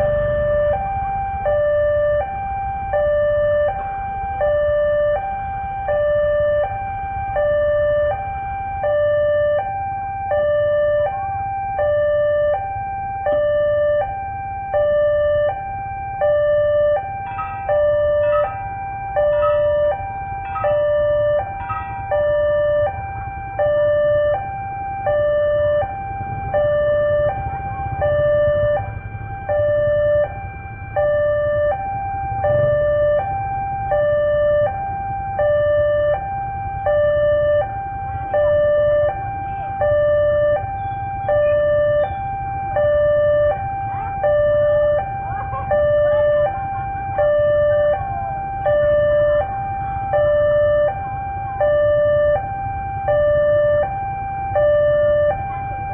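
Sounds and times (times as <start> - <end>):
level crossing alarm two-tone: 0.0 - 55.9
traffic rumble: 0.0 - 55.9.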